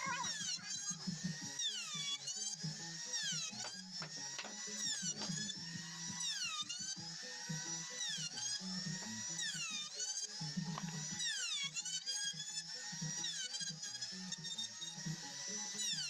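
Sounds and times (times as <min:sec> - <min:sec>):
wood router motor whining: 0:00.0 - 0:16.0.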